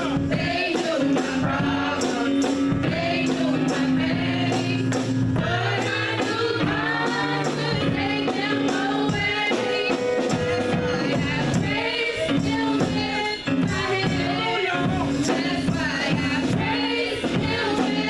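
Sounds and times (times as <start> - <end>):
band playing: 0.0 - 18.0
gospel voices singing: 0.0 - 18.0
tambourine beat: 0.0 - 18.0.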